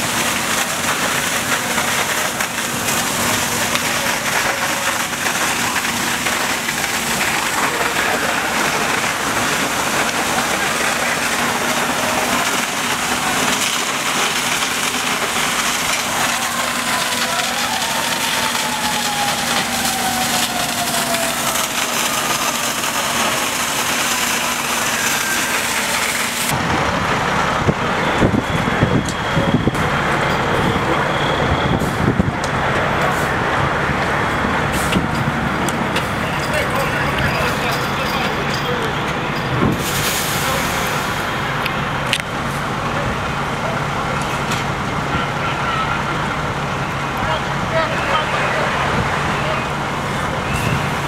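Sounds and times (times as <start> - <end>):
fire hissing: 0.0 - 36.6, 39.7 - 51.0
fire engine engine rumbling: 0.0 - 51.0.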